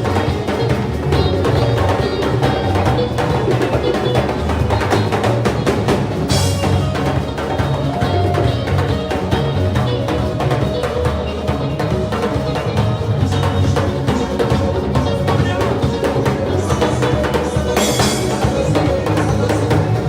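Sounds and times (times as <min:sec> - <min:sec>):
fast dense drumming: 0:00.0 - 0:20.0
pulsing bass line: 0:00.0 - 0:20.0.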